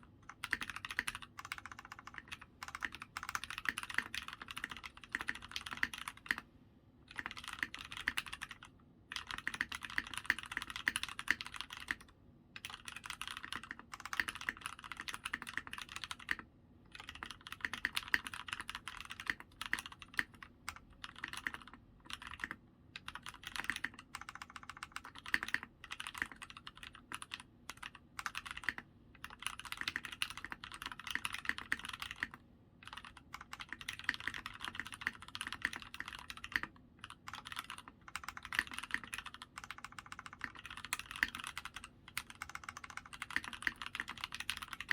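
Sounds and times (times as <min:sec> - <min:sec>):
mechanical keyboard typing: 0:00.0 - 0:06.4, 0:07.1 - 0:44.9.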